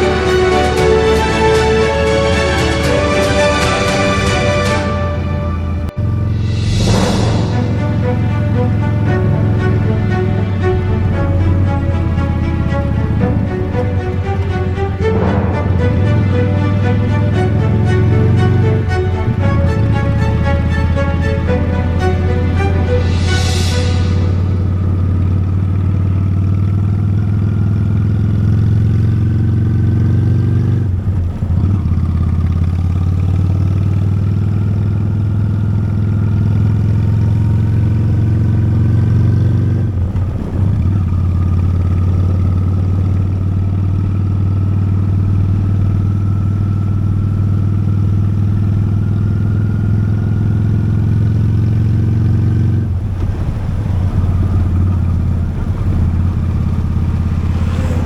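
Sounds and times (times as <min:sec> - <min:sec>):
motorcycle engine accelerating: 0:05.6 - 0:58.0.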